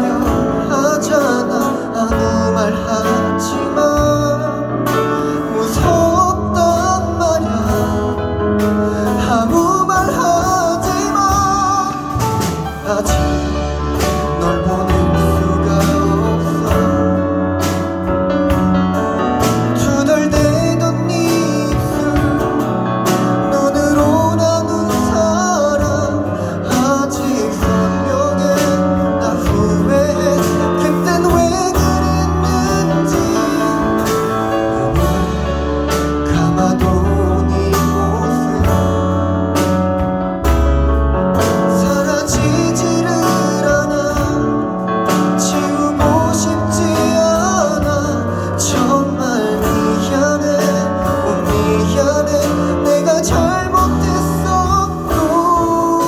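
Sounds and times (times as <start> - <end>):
bass: 0.0 - 56.0
guitar: 0.0 - 56.0
live band accompaniment: 0.0 - 56.0
person singing: 0.0 - 56.0.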